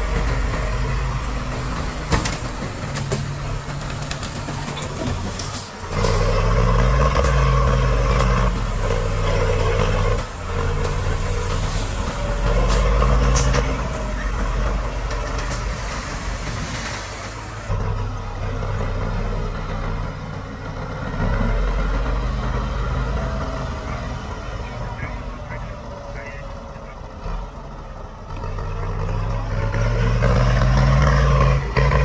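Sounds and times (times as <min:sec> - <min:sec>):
heavy diesel engines under load: 0:00.0 - 0:32.0.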